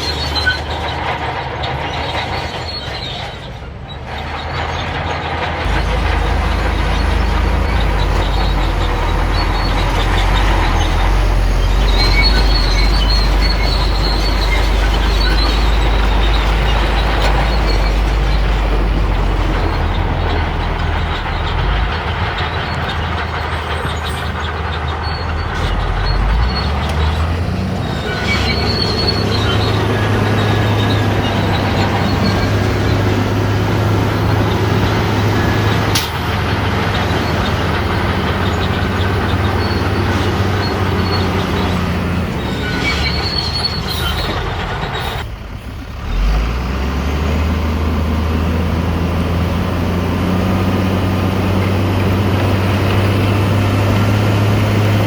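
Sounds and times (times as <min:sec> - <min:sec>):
bulldozer diesel engine: 0:00.0 - 0:55.0
steel tracks squealing: 0:00.0 - 0:55.0.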